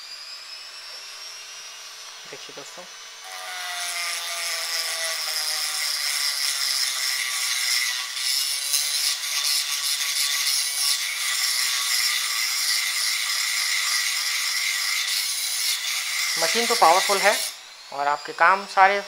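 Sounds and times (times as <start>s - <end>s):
die grinder motor whine: 0.0s - 9.6s, 10.5s - 19.0s.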